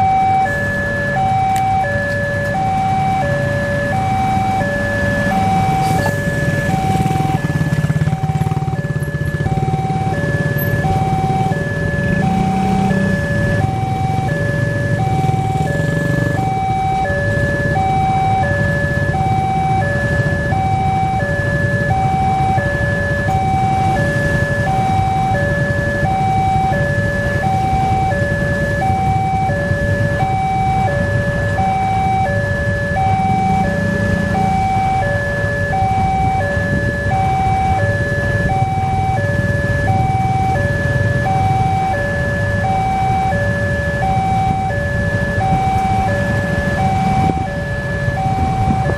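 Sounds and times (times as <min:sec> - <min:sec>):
idling engines rumble: 0:00.0 - 0:48.9
level crossing two-tone alarm: 0:00.0 - 0:48.9.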